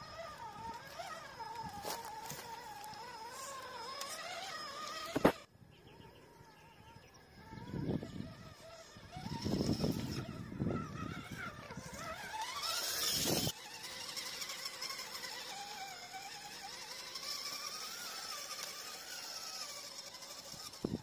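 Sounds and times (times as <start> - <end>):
electric motor and gearbox whining: 0.0 - 21.0.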